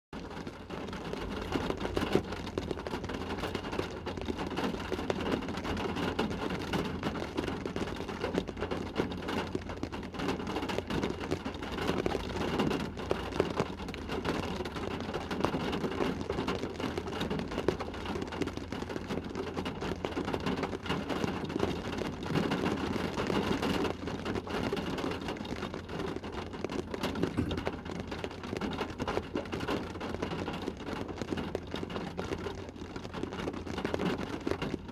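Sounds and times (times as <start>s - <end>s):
rain pattering on a car: 0.2s - 34.9s.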